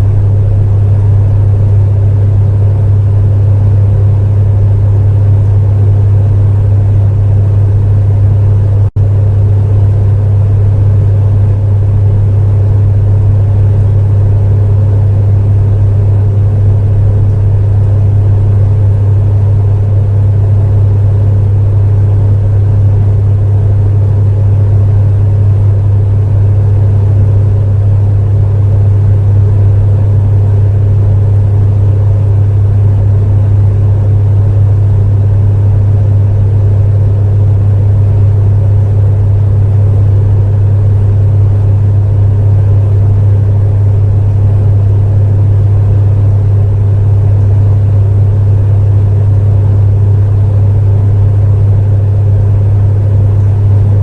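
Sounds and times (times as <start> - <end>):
fan air whoosh: 0.0 - 54.0
space heater humming: 0.0 - 54.0.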